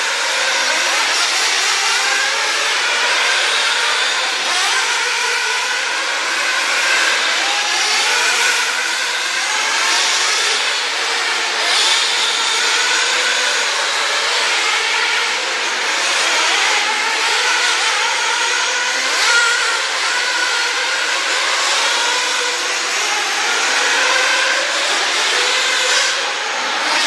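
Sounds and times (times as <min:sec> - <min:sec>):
rc car motors whining: 0:00.0 - 0:27.0.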